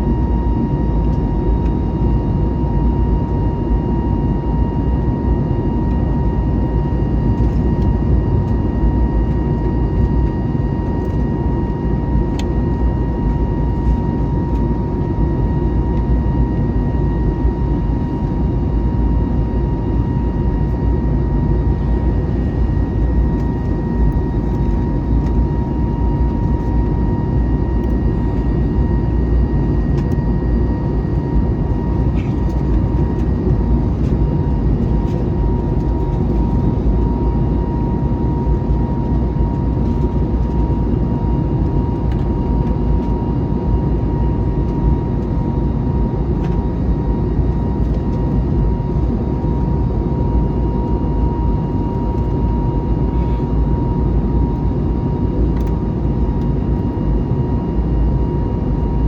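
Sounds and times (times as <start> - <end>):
steady cabin hum: 5.7 - 54.9
engines and airflow rushing: 7.1 - 54.4.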